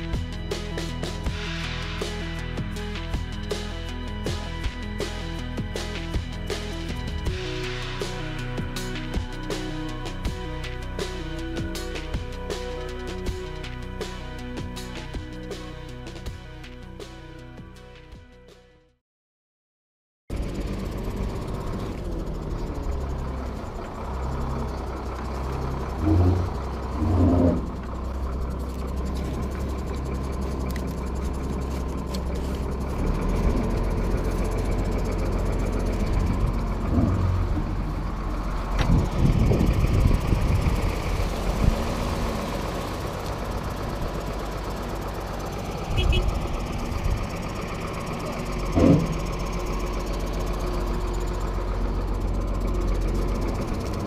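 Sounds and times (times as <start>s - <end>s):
tractor diesel engine droning: 0.0s - 17.6s, 20.3s - 54.0s.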